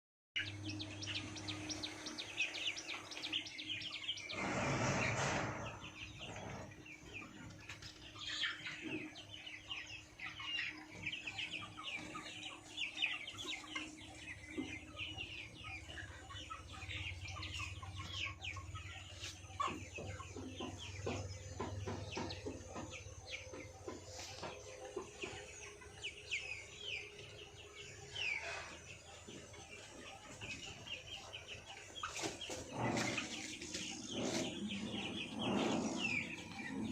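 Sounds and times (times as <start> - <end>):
chickens peeping and clucking: 0.4 - 36.9.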